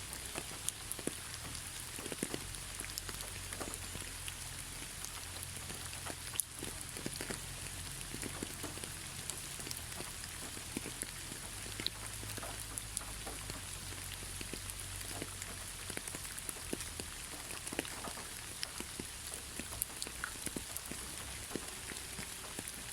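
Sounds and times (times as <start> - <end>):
steady rain hiss: 0.0 - 22.9
drops ticking on a hard surface: 0.1 - 22.9.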